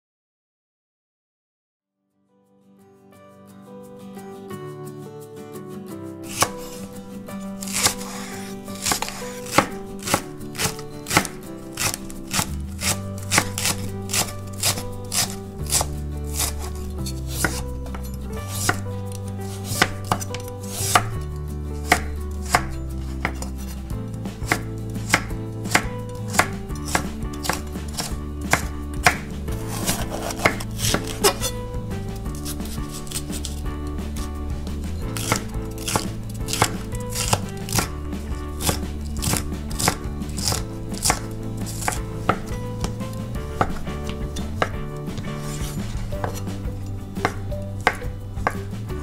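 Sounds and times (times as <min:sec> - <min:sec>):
knife chopping on wooden board: 0:06.3 - 0:06.9, 0:07.5 - 0:23.8, 0:24.4 - 0:48.9.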